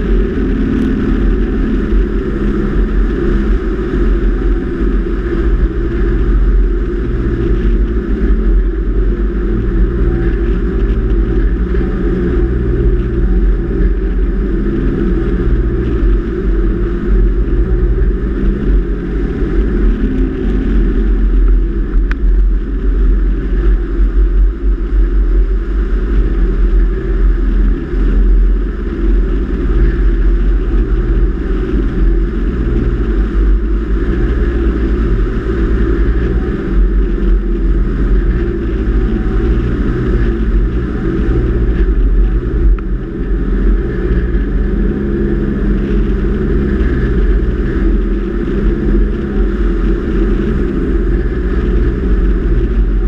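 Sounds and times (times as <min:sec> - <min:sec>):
vehicle engine drone: 0:00.0 - 0:53.0
wind rumble on microphone: 0:00.0 - 0:53.0.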